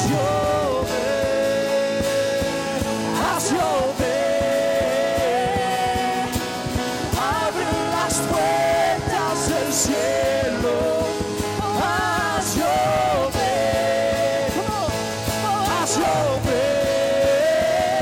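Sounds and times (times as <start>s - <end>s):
live worship band music: 0.0s - 18.0s
person singing wordless vocals: 0.0s - 18.0s.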